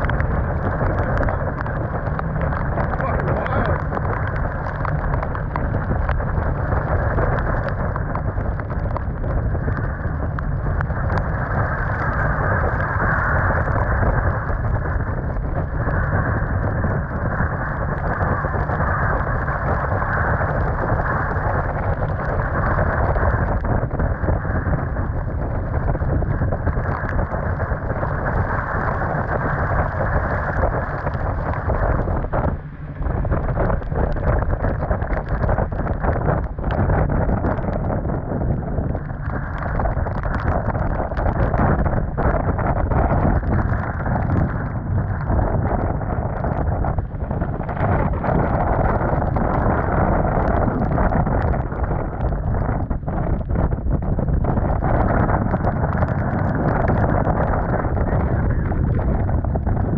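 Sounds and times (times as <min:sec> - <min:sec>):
driving rain: 0:00.0 - 0:59.9
storm wind: 0:00.0 - 0:59.9
wind buffeting on microphone: 0:00.0 - 0:59.9.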